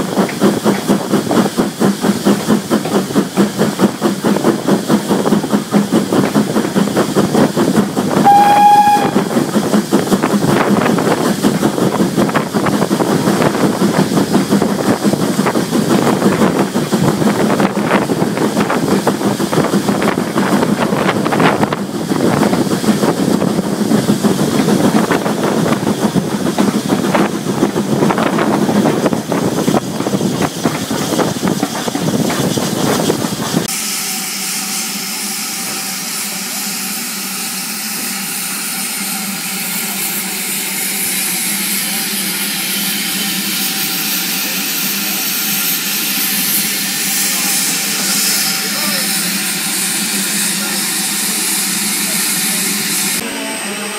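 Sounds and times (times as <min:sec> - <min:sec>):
steam hissing: 0:00.0 - 0:53.9
steam locomotive clatter: 0:00.0 - 0:53.9.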